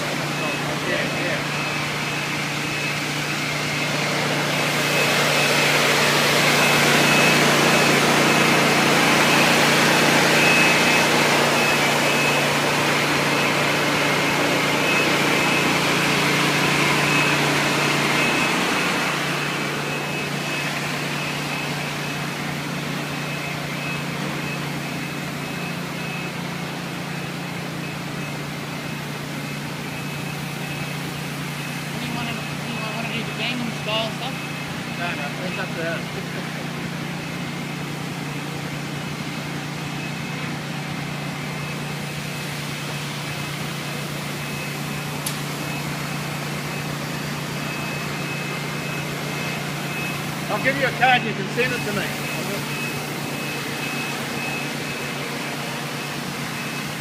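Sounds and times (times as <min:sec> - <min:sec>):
floor scrubber motor hum and whine: 0:00.0 - 0:57.0.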